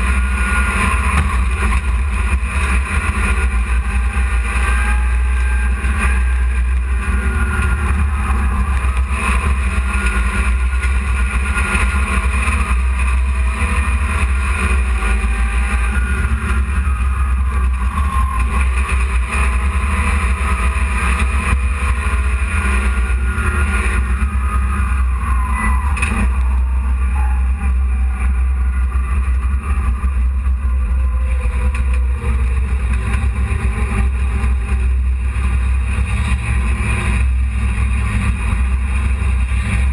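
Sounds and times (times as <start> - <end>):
noisy rush: 0.0 - 39.9
truck engine low rumble: 0.0 - 39.9.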